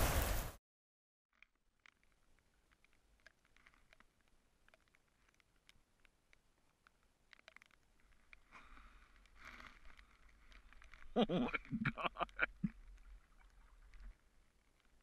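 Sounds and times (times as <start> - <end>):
light rain ticking: 1.4 - 15.0.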